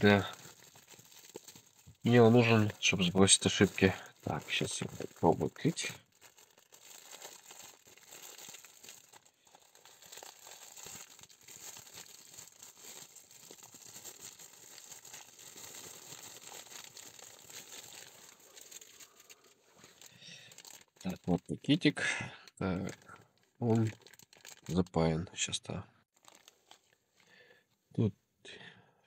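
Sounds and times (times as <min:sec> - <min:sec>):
plastic wrapping crinkling: 0:00.0 - 0:21.8, 0:22.7 - 0:24.9, 0:26.1 - 0:27.3.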